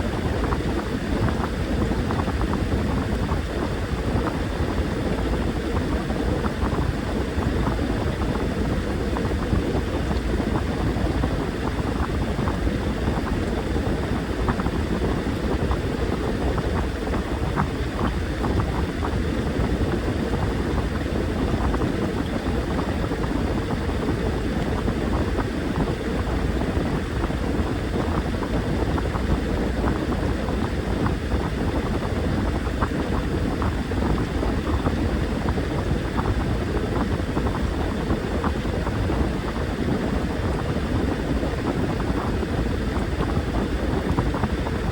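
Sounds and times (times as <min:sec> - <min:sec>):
washing machine motor drone: 0:00.0 - 0:44.9
water churning in drum: 0:00.0 - 0:44.9.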